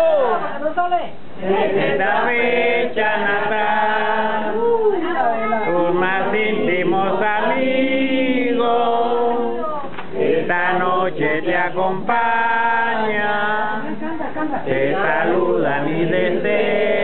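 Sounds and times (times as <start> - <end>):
group singing birthday song: 1.3 - 17.0.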